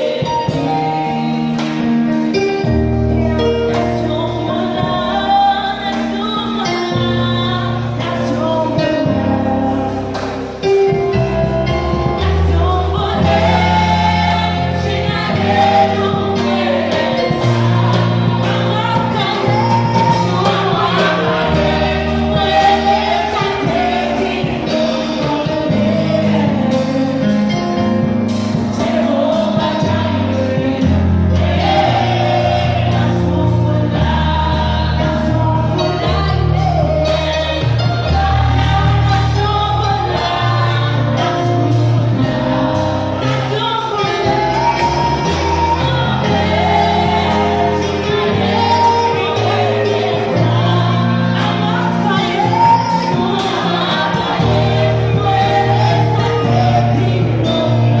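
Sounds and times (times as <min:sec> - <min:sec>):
female group singing gospel: 0:00.0 - 0:58.0
instrumental backing with beat: 0:00.0 - 0:58.0.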